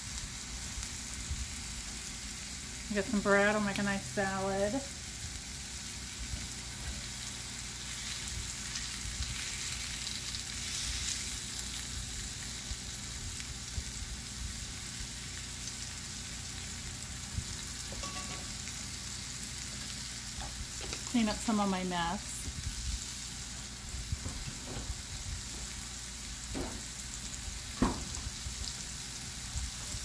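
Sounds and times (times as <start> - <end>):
chicken sizzling in grill pan: 0.0 - 30.0.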